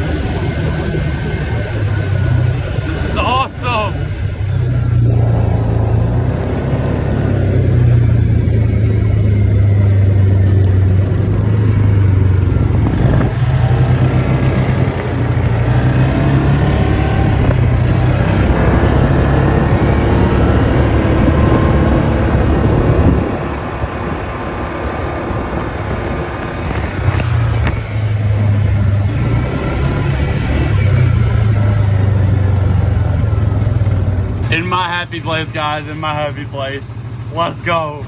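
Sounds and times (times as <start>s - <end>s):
engine whine: 0.0s - 38.0s
low engine drone: 0.0s - 38.0s.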